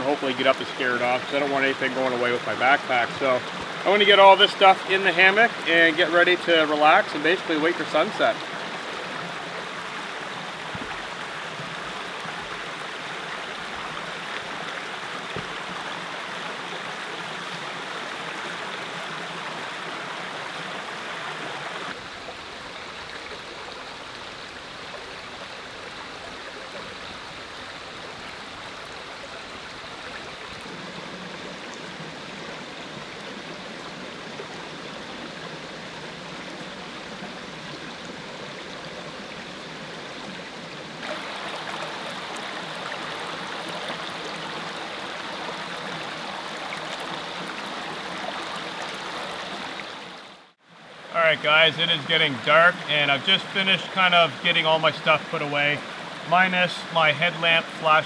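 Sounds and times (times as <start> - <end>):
creek water flowing over rocks: 0.0 - 58.0.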